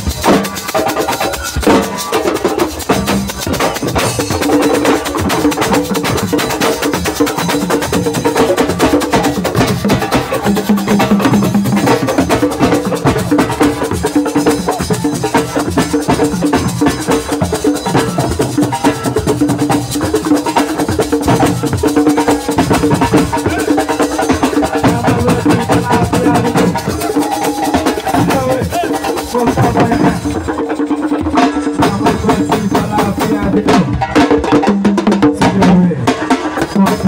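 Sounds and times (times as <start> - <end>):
fast drums and percussion: 0.0 - 37.0.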